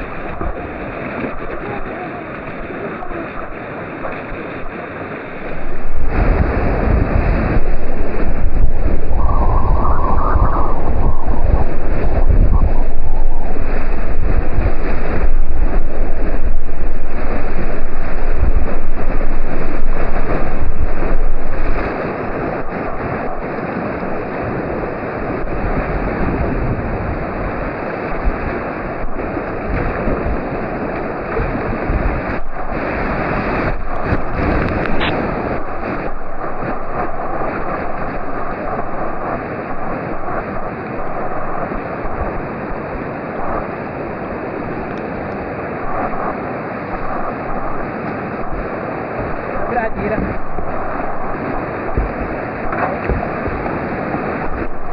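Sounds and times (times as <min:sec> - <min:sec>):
whitewater river rushing: 0:00.0 - 0:54.9
wind buffeting microphone: 0:00.0 - 0:54.9.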